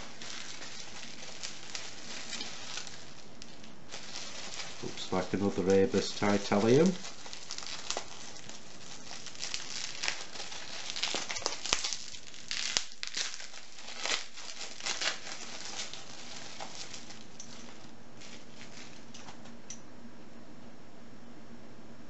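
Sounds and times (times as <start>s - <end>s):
crinkly packaging unwrapped by hand: 0.0s - 19.6s.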